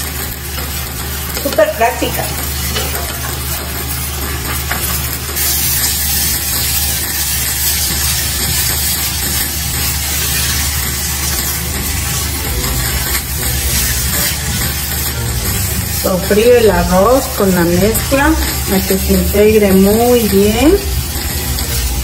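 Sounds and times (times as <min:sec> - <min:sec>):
food sizzling in frying pan: 0:00.0 - 0:22.0
steady low hum: 0:00.0 - 0:22.0.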